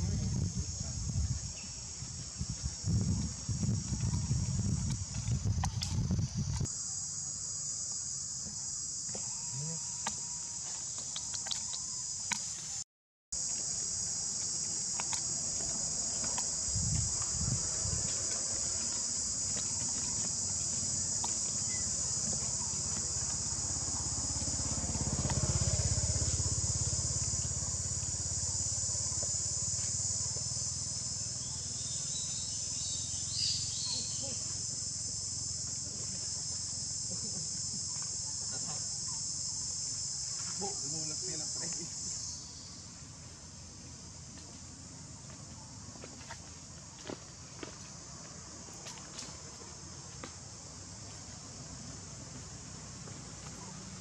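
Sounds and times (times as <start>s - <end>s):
high-pitched insect drone: 0.0s - 12.8s, 13.4s - 54.0s.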